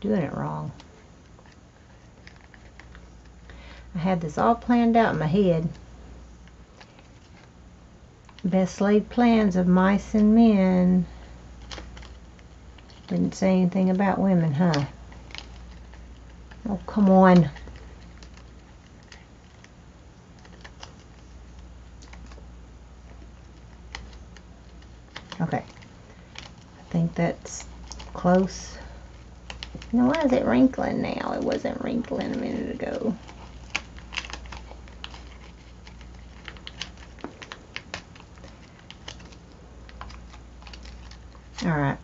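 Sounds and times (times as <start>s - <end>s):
low steady hum: 0.0s - 42.0s
paper rustling: 0.6s - 3.8s, 6.4s - 7.6s, 11.1s - 42.0s.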